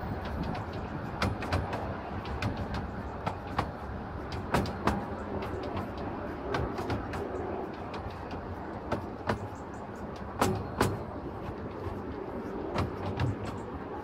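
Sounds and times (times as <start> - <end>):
railway carriage low rumble: 0.0 - 14.0
wheels clacking over rail joints: 0.0 - 14.0.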